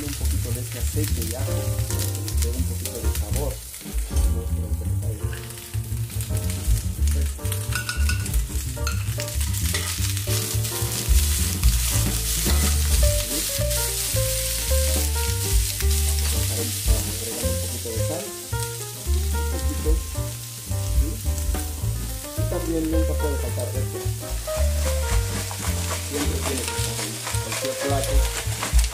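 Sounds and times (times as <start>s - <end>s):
background music with bass: 0.0s - 28.9s
vegetables sizzling in a skillet: 0.0s - 28.9s.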